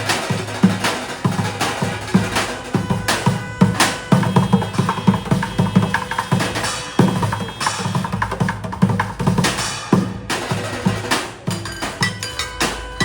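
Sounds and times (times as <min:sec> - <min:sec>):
improvised drum kit playing: 0:00.0 - 0:13.0.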